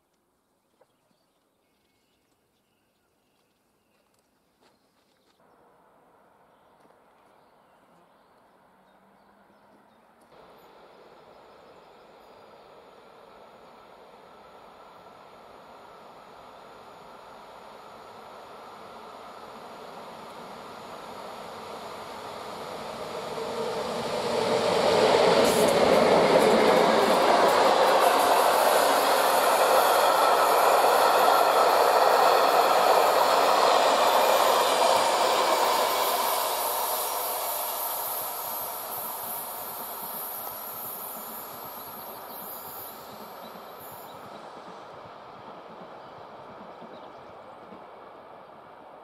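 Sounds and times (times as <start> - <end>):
train wheels running on rails: 9.7 - 49.0.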